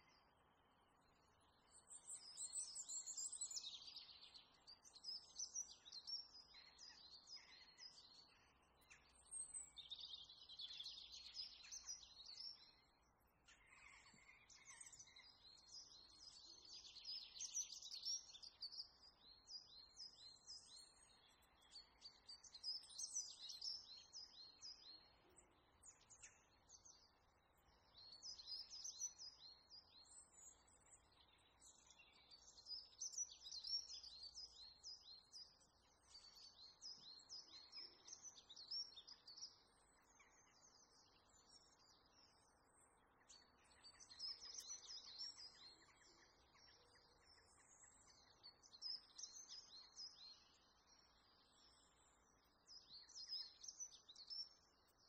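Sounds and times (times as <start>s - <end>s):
high chirping birdsong: 0.0s - 55.0s
low steady hiss: 0.0s - 55.0s.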